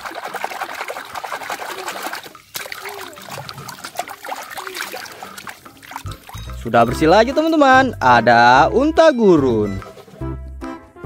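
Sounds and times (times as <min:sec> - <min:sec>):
water splashing and swishing: 0:00.0 - 0:08.4, 0:09.2 - 0:10.4.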